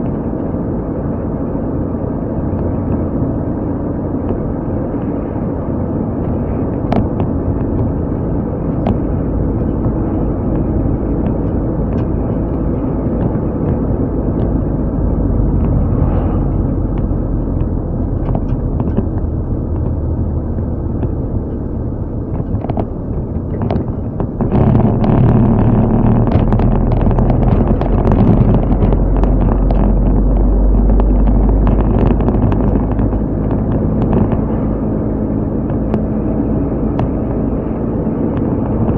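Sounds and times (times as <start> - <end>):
car engine drone: 0.0 - 38.9
road noise: 0.0 - 38.9.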